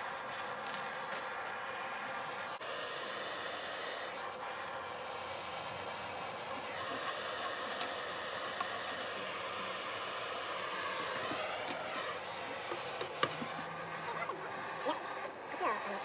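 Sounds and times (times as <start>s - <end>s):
gas torch burning: 0.0s - 16.0s.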